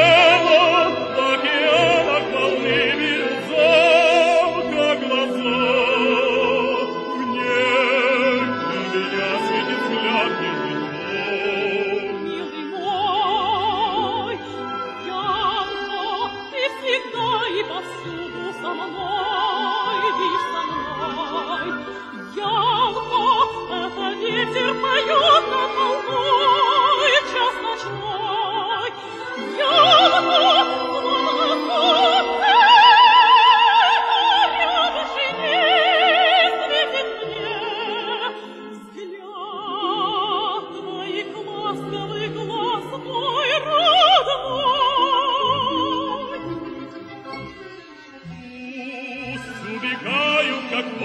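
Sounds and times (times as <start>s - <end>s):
orchestra playing: 0.0s - 51.0s
soprano singing with vibrato: 0.0s - 51.0s.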